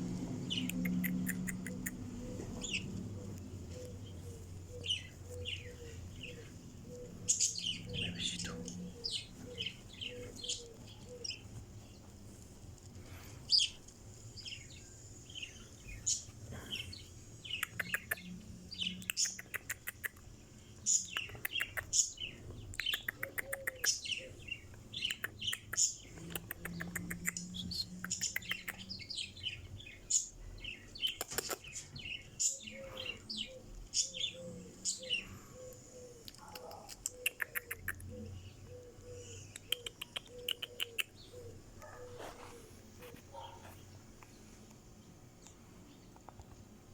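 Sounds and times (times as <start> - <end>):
budgerigars chirping and chattering: 0.4 - 11.5, 14.4 - 20.2, 20.8 - 42.6.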